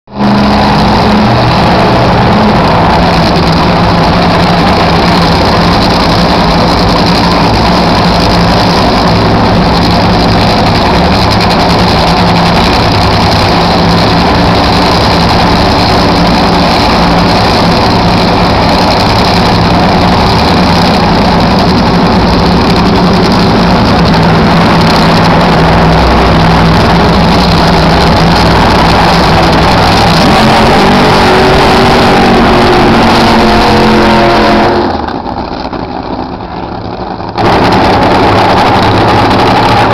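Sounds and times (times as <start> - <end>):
race car engines idling loudly: 0.1 - 39.9.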